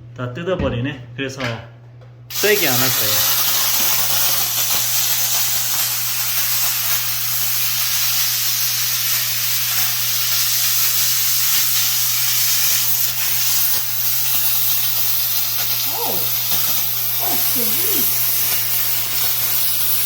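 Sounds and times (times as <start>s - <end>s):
steam hissing from nozzle: 2.3s - 20.0s.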